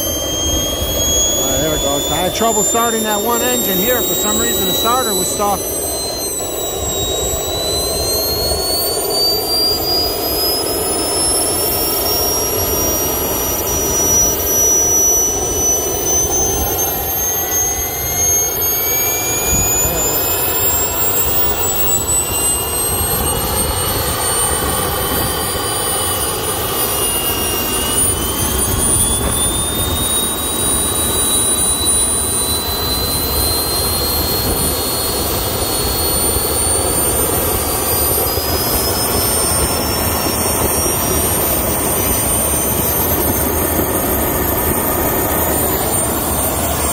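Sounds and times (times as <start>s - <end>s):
turbine whines: 0.0s - 46.9s
turbojet engines roaring: 0.0s - 46.9s.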